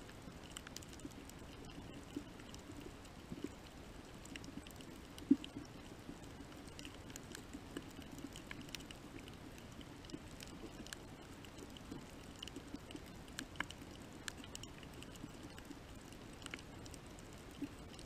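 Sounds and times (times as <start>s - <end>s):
faint clicks and crackles: 0.0s - 18.0s
low steady hum: 0.0s - 18.0s.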